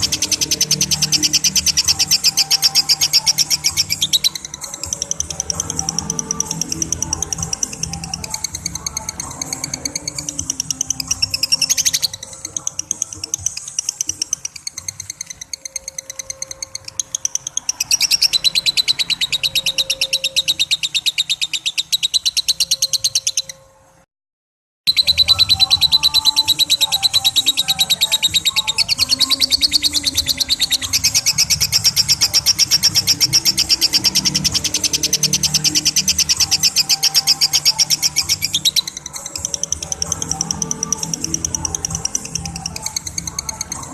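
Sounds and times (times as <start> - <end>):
lovebird high chattering trill: 0.0 - 23.7, 24.9 - 43.9.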